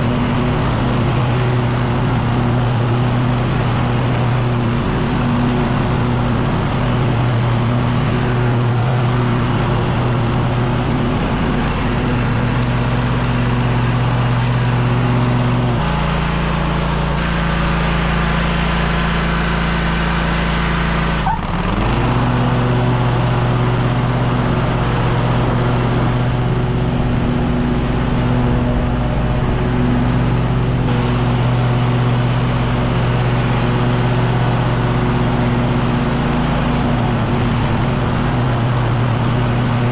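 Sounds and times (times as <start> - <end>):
backpack leaf blower running: 0.0 - 39.9.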